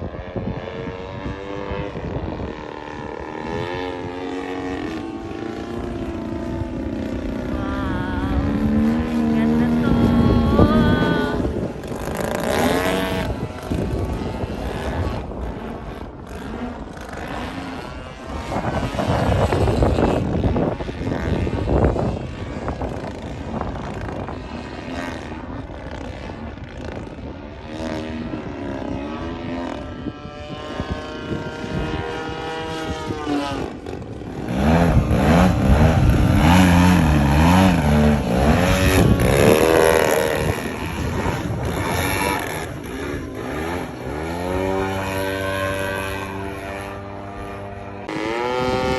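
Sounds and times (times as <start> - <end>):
model airplane engine and propeller: 0.0 - 48.9.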